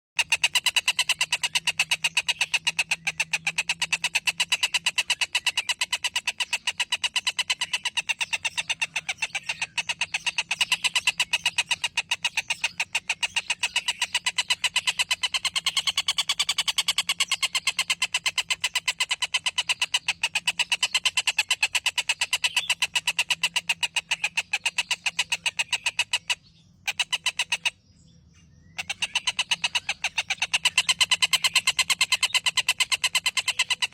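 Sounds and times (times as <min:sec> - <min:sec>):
songbird trilling: 0:00.2 - 0:33.9.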